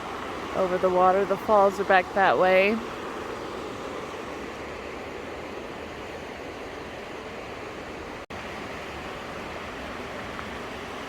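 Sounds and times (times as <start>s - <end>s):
fast-flowing water rushing: 0.0s - 11.0s.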